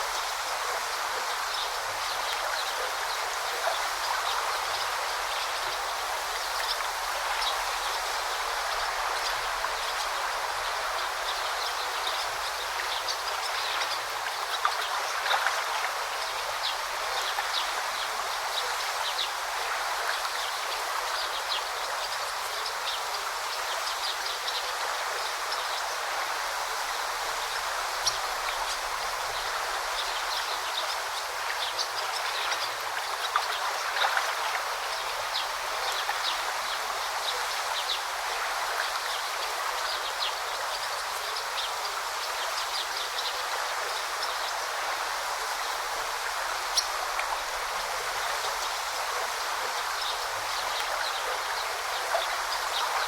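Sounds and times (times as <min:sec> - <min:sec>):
brook flowing: 0:00.0 - 0:53.0
water ticks and splashes: 0:00.0 - 0:53.0.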